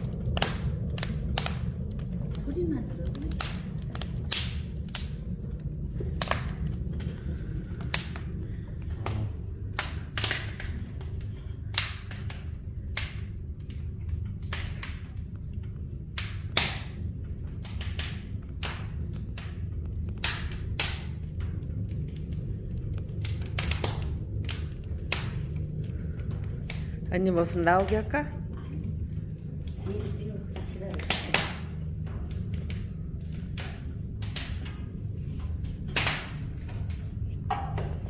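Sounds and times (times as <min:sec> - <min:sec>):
firewood crackling: 0:00.0 - 0:38.0.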